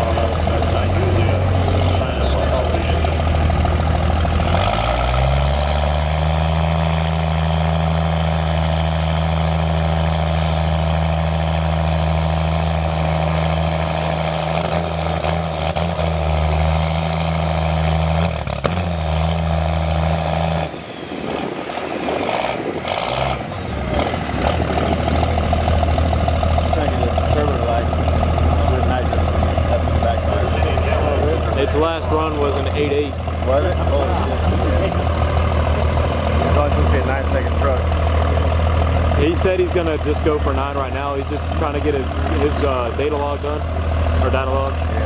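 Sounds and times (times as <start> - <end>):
engine running steadily: 0.0 - 45.0.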